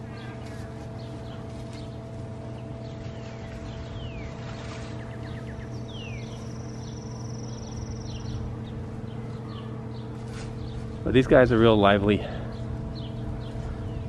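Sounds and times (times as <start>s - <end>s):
low mechanical hum: 0.0s - 14.0s
songbirds chirping: 0.0s - 14.0s.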